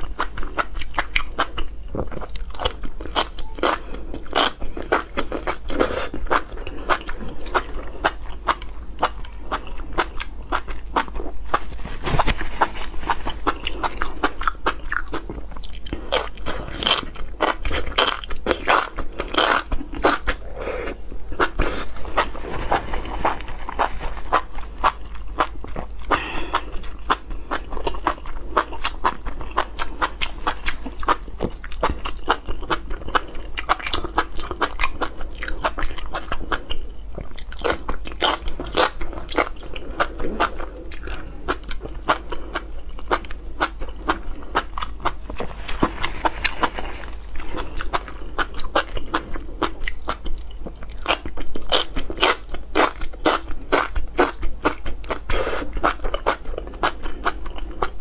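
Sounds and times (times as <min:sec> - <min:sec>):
chewing mushrooms: 0:00.0 - 0:58.0.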